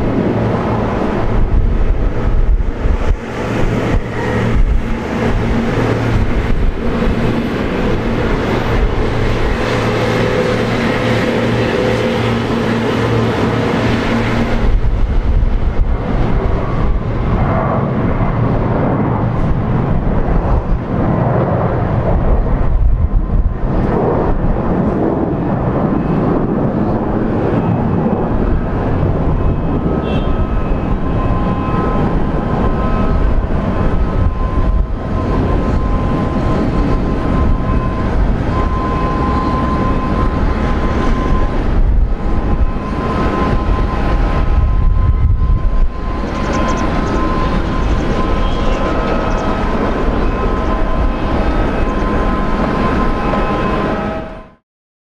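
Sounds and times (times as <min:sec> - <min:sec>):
jet engine roar: 0:00.0 - 0:54.6
steady whining tones: 0:00.0 - 0:54.6.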